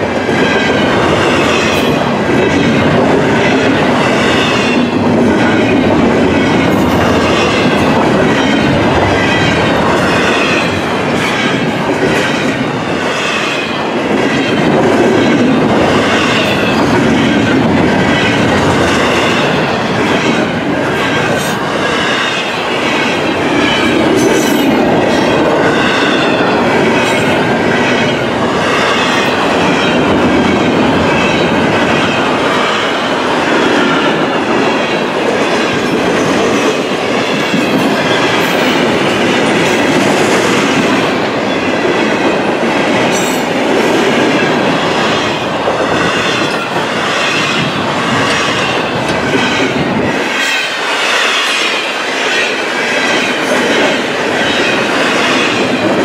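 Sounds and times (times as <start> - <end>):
steel wheels on rail: 0.0 - 56.0.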